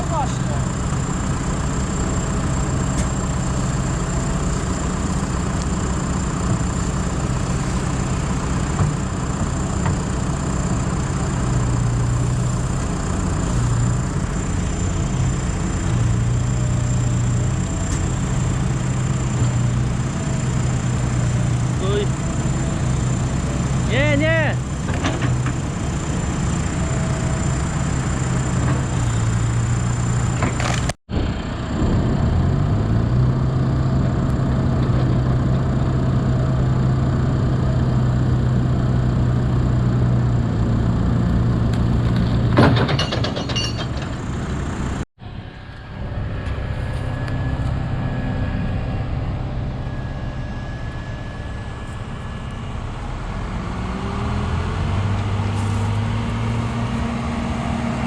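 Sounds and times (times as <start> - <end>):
heavy diesel machinery engines: 0.0 - 58.0.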